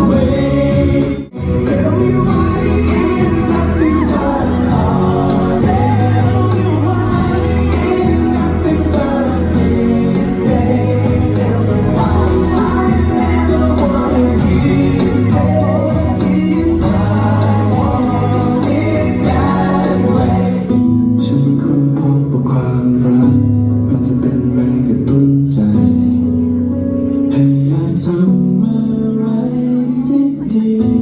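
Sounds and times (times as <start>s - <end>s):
singing over full band: 0.0s - 31.0s
song with guitar: 0.0s - 31.0s.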